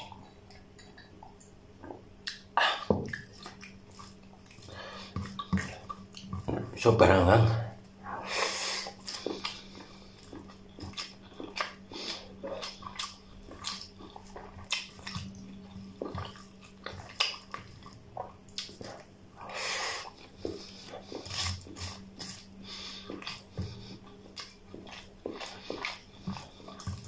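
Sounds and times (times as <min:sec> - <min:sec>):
wet chewing and lip smacks: 0:00.0 - 0:06.5, 0:08.8 - 0:19.2, 0:20.0 - 0:27.0.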